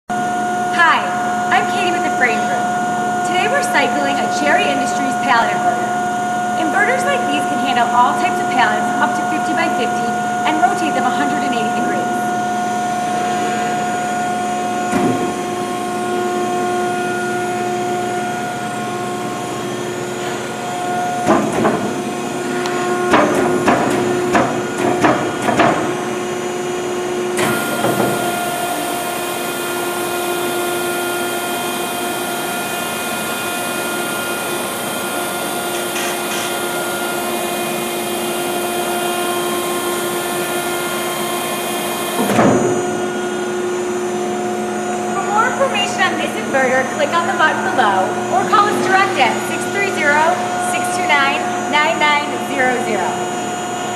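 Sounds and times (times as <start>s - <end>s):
hydraulic pump humming: 0.1s - 53.9s.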